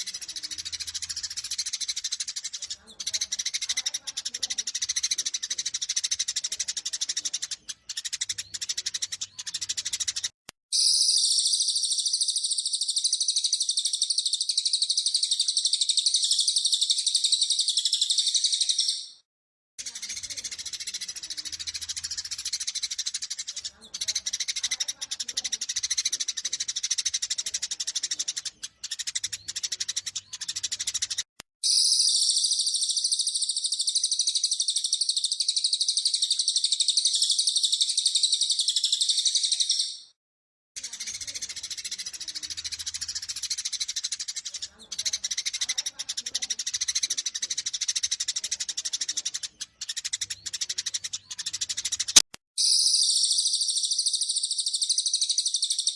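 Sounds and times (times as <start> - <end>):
sparrows chattering: 0.0 - 19.2, 19.8 - 40.2, 40.8 - 55.9.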